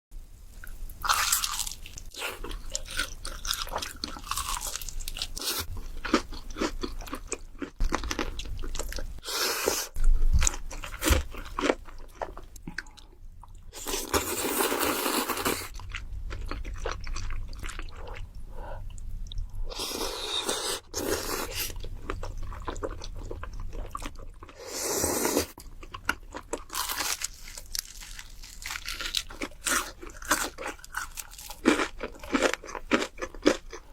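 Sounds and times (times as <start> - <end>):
person chewing crunchy food: 0.9 - 33.9.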